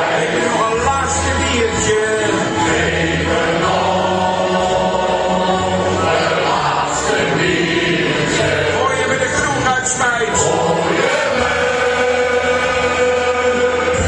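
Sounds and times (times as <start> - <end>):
accordion accompaniment: 0.0 - 14.0
men's choir singing: 0.0 - 14.0.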